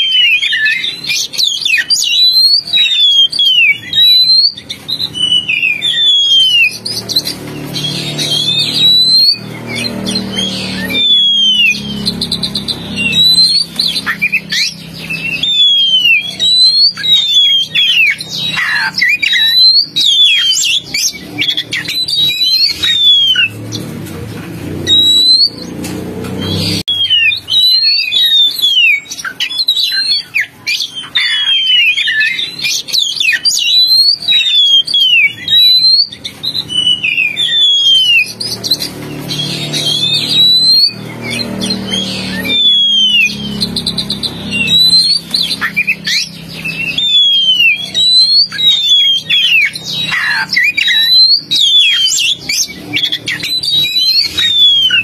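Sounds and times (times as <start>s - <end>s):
bird whistling song: 0.0s - 23.9s, 24.7s - 55.0s.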